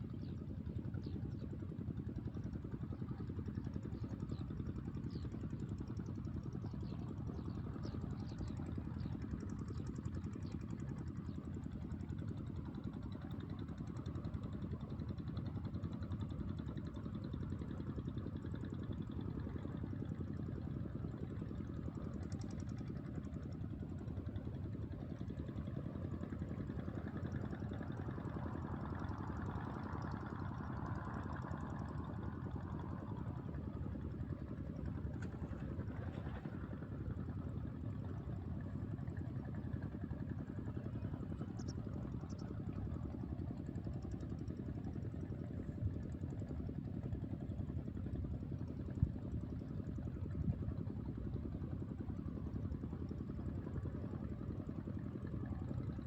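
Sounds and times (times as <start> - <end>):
small engine idling: 0.0 - 56.0.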